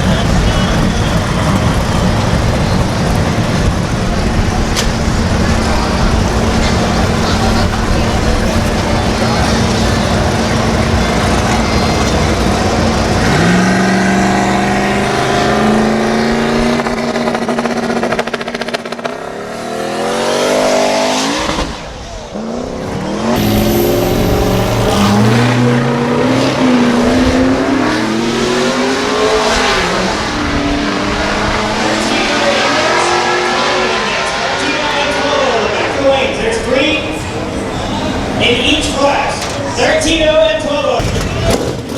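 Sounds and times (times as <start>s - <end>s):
truck engines revving: 0.0s - 41.9s.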